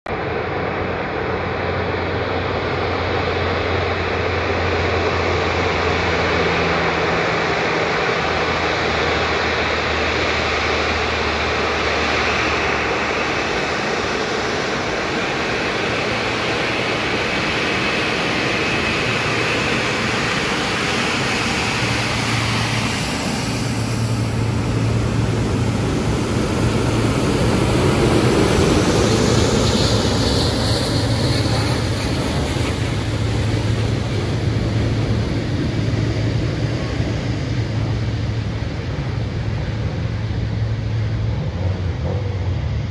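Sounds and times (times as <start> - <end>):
high engine whine: 0.1 - 42.9
jet engines at taxi power: 0.1 - 42.9.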